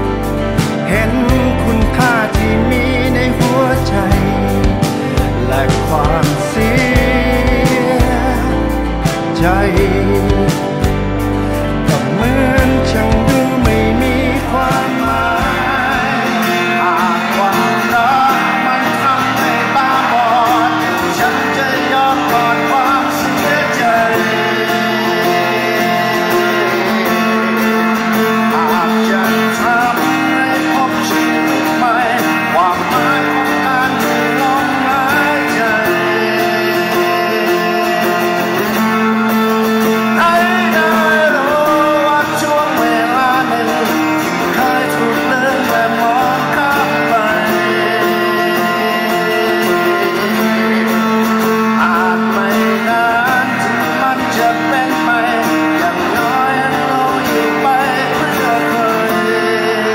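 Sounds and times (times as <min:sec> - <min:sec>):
acoustic guitar strumming: 0:00.0 - 0:59.9
man singing a slow ballad: 0:00.0 - 0:59.9.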